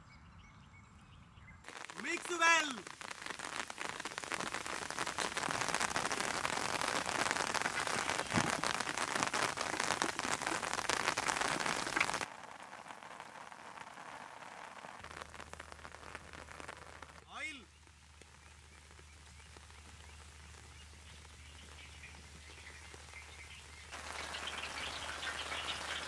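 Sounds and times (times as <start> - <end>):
rain pattering on ground: 1.7 - 26.0.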